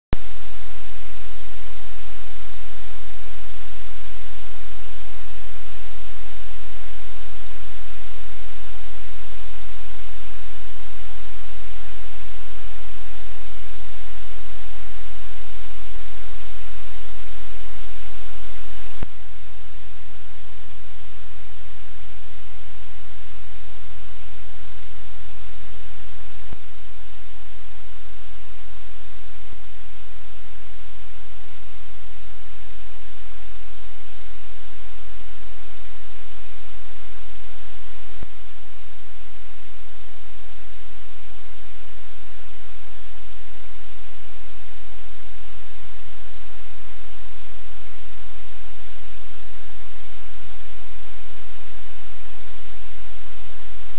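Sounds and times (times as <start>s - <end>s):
low electrical hum: 0.2s - 53.9s
static hiss: 0.2s - 53.9s.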